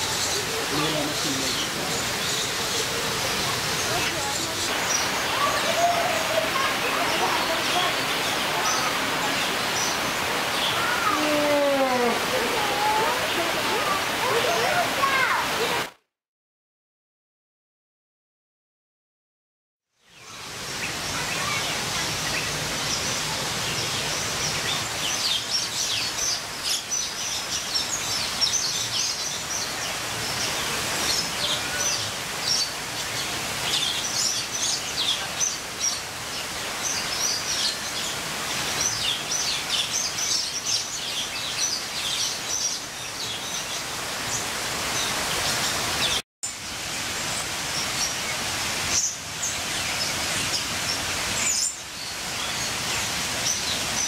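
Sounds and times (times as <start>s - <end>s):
many birds chirping: 0.0s - 15.9s, 20.0s - 54.0s.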